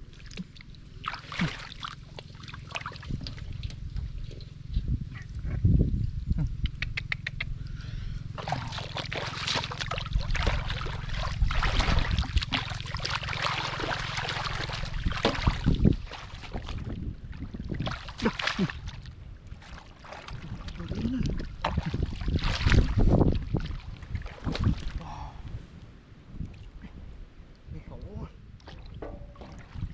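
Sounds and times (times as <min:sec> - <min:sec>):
splashing in shallow muddy water: 0:00.0 - 0:04.8, 0:06.7 - 0:25.6, 0:27.6 - 0:29.9
wind rumbling on microphone: 0:02.6 - 0:29.9.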